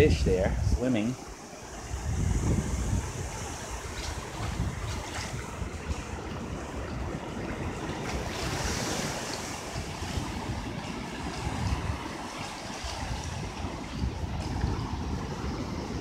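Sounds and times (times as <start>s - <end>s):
ocean surf washing onto beach: 0.0s - 16.0s
wind on microphone: 0.0s - 16.0s.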